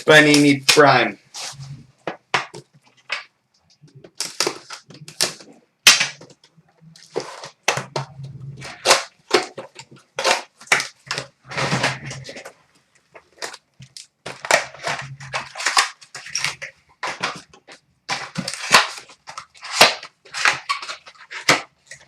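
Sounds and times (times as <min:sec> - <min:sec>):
wrapping tearing and crackling: 0:02.5 - 0:22.0.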